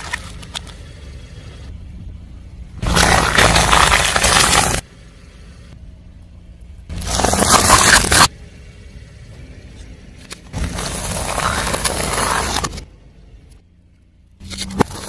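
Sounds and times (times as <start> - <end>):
car tyre crushing objects: 0.0 - 1.8, 2.4 - 5.8, 6.5 - 8.4, 9.2 - 15.0.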